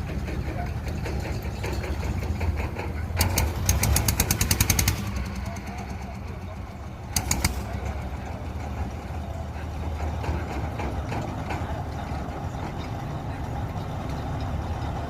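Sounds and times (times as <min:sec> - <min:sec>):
heavy engine rumbling: 0:00.0 - 0:15.0.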